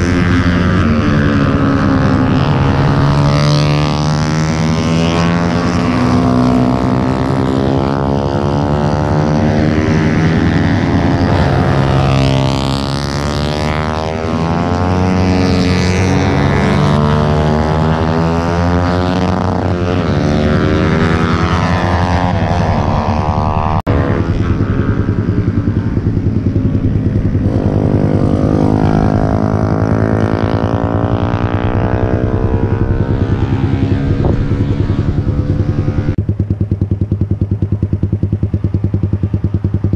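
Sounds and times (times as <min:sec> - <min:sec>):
racing motorcycle revving: 0:00.0 - 0:39.9
steady motorcycle engine: 0:00.0 - 0:39.9.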